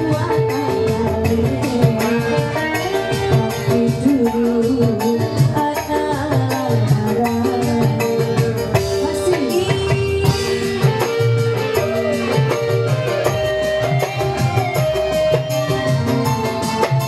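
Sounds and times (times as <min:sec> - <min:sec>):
hand drum beat: 0:00.0 - 0:17.0
keyboard melody: 0:00.0 - 0:17.0
woman singing into microphone: 0:00.0 - 0:17.0.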